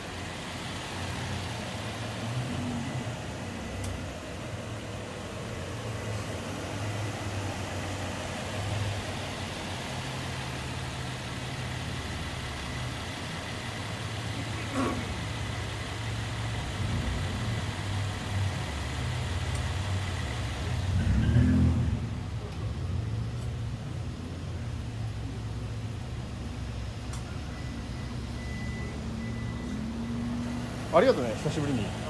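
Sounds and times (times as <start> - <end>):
car engine idling: 0.0 - 21.2, 21.8 - 32.0
car driving up: 0.0 - 32.0.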